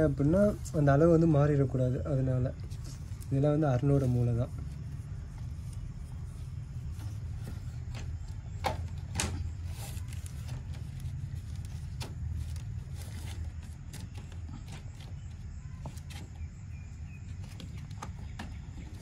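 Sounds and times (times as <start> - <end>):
steady low rumble: 0.0 - 15.6.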